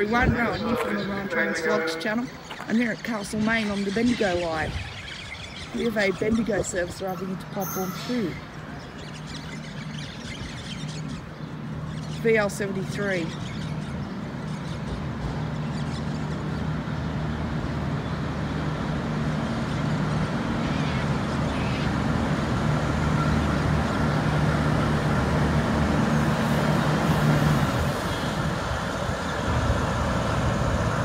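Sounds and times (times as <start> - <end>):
diesel train engine hum: 0.0 - 31.0.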